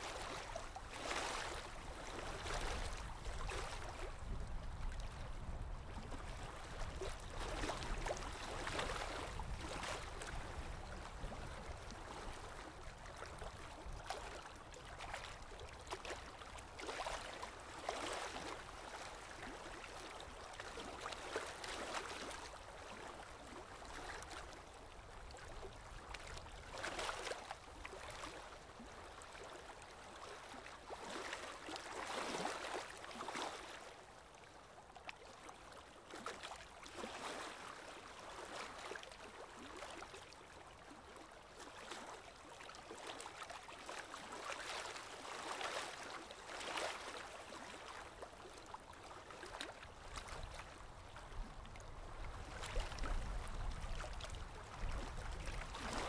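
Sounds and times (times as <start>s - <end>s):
lake water lapping: 0.0s - 56.0s.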